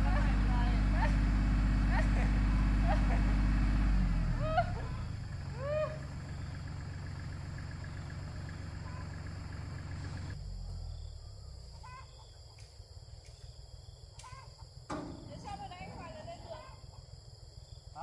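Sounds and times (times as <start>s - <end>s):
diesel tractor engine idling: 0.0s - 12.1s, 14.7s - 17.8s.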